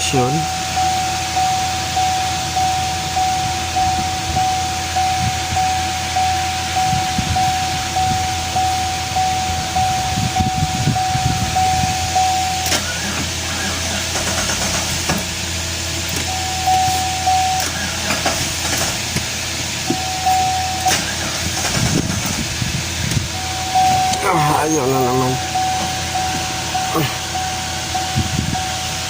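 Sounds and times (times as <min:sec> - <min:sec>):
electronic warning chime beeping: 0:00.0 - 0:14.2, 0:16.1 - 0:18.6, 0:19.8 - 0:21.6, 0:23.3 - 0:29.0
vehicle background noise: 0:00.0 - 0:29.0.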